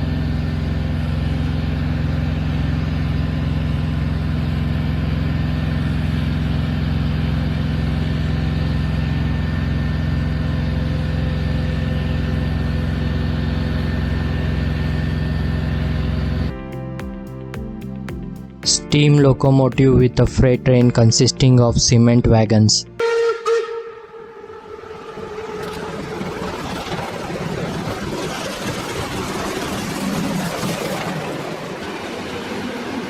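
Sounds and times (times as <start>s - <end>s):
diesel locomotive engine running: 0.0s - 16.5s, 23.0s - 33.0s.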